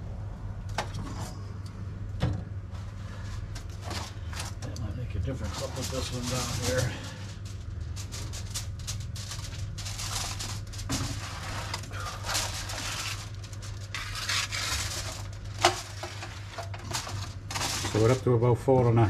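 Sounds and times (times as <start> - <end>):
metal trays scraping and clattering: 2.9 - 18.3.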